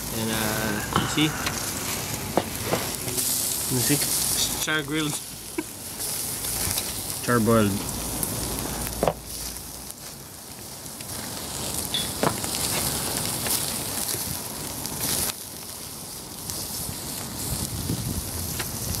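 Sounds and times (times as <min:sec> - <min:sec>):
charcoal crackling and popping: 0:00.0 - 0:19.0
meat sizzling on a grill: 0:00.0 - 0:19.0.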